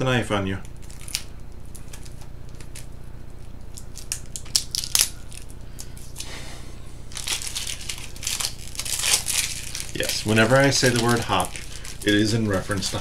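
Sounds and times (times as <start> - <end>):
steady low hum: 0.0 - 13.0
plastic shrink wrap crinkling: 0.7 - 6.3, 7.1 - 13.0.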